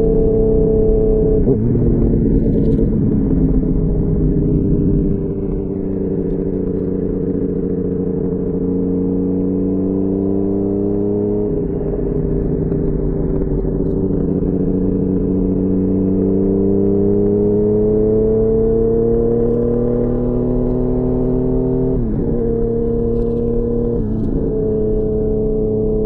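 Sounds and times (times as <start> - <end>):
motorcycle engine while riding: 0.0 - 26.0.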